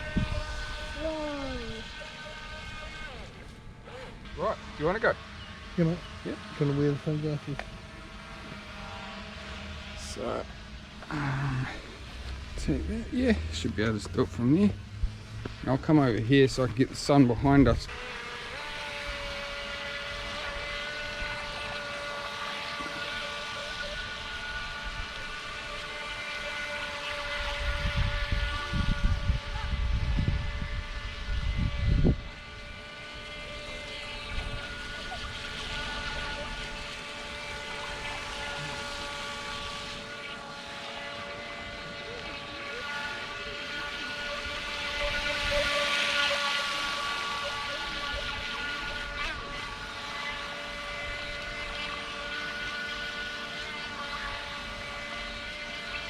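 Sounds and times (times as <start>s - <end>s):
electric motor whining: 0.0s - 56.0s.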